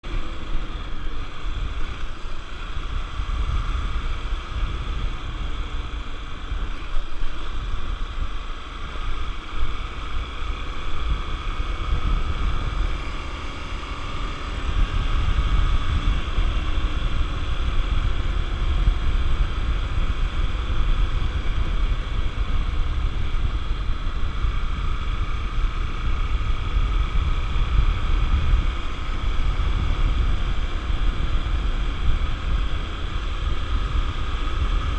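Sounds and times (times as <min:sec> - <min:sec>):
motorcycle engine running: 0:00.0 - 0:34.9
wind rumbling on microphone: 0:00.0 - 0:34.9.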